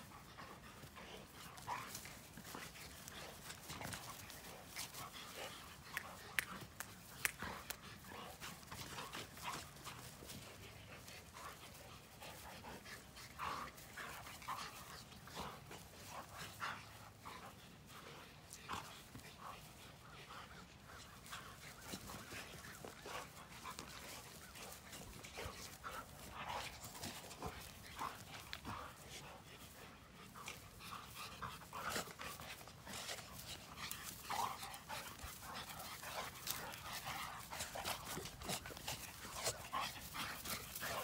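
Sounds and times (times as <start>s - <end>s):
animals panting and snuffling: 0.0s - 41.0s.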